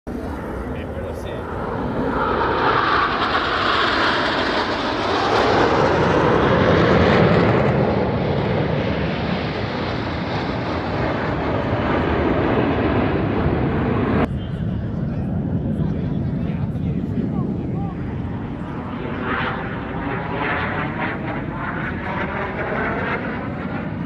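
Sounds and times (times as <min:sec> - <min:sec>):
jet aircraft flying past: 0:00.1 - 0:24.0.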